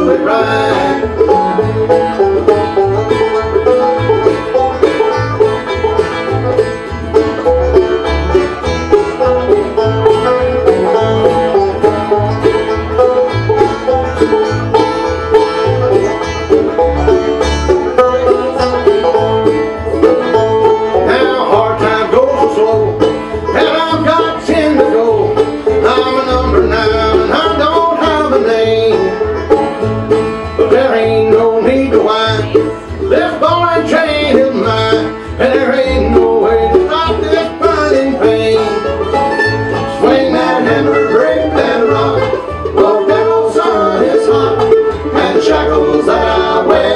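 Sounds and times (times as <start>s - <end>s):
acoustic guitars: 0.0s - 46.9s
banjo: 0.0s - 46.9s
low bass line: 0.0s - 46.9s
mandolin: 0.0s - 46.9s.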